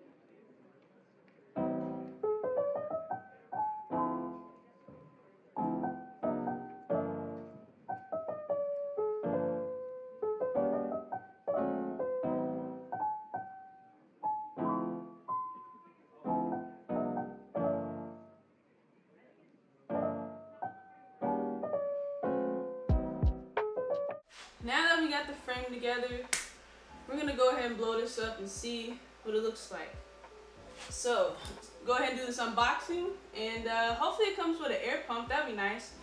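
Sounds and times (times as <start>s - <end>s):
mellow piano music: 1.4s - 18.6s, 19.7s - 36.0s.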